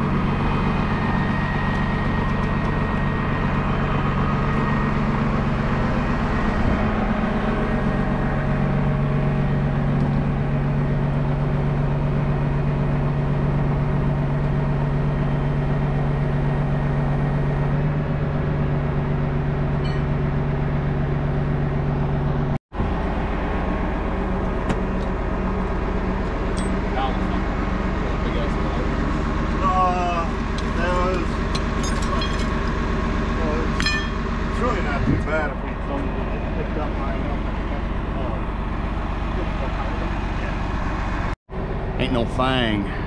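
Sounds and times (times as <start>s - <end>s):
diesel truck engine droning: 0.0s - 43.0s.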